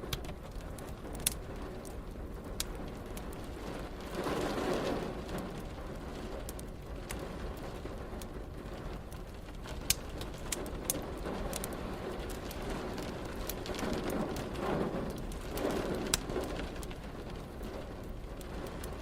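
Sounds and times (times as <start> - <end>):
fireplace crackling and popping: 0.0 - 19.0
rain and rumble: 0.0 - 19.0.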